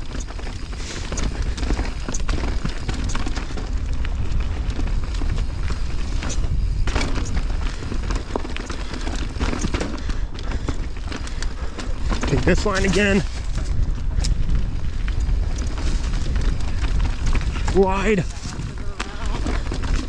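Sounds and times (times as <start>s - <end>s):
bike rattling over rocky ground: 0.0s - 20.0s
wind rumbling on microphone: 0.0s - 20.0s.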